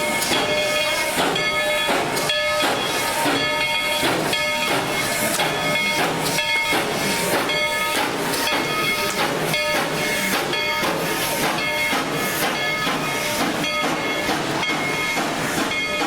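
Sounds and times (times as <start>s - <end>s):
steam exhaust hissing in beats: 0.0s - 16.0s.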